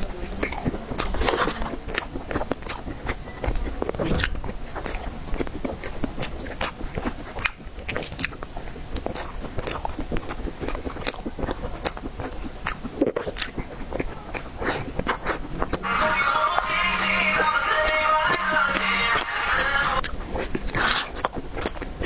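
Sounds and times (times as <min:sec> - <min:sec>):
mouth clicks and smacks: 0:00.0 - 0:22.0
person chewing: 0:00.0 - 0:22.0.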